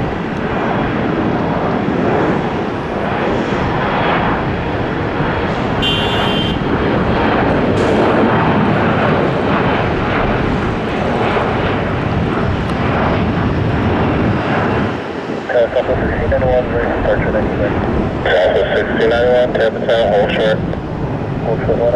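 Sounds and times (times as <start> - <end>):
jet engines rumbling: 0.0 - 21.9.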